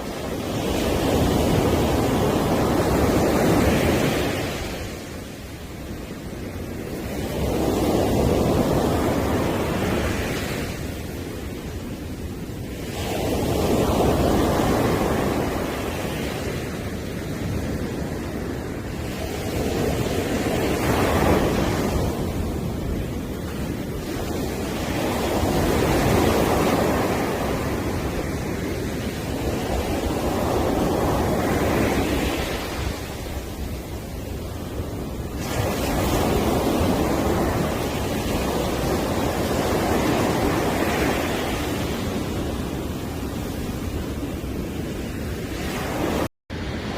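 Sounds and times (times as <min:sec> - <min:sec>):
waves breaking on a beach: 0:00.0 - 0:46.9.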